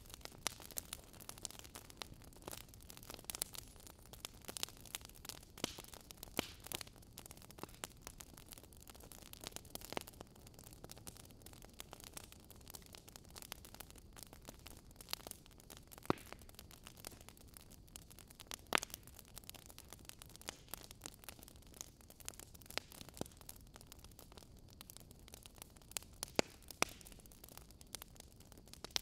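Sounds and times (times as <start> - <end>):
fire popping: 0.0 - 29.0
wood fire crackling: 0.0 - 29.0.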